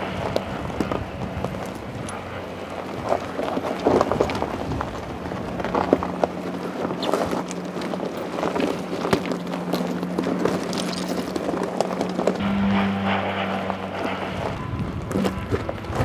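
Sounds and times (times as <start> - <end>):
tyres crunching over gravel: 0.0 - 16.0
vehicle humming: 0.0 - 16.0.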